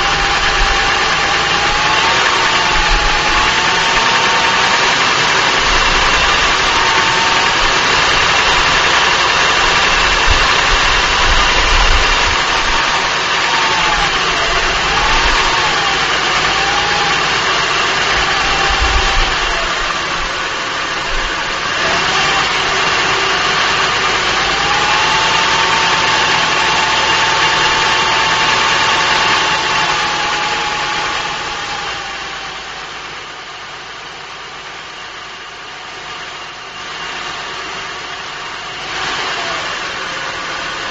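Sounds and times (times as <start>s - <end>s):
car engine idling: 0.0s - 40.9s
engine knocking: 0.0s - 40.9s.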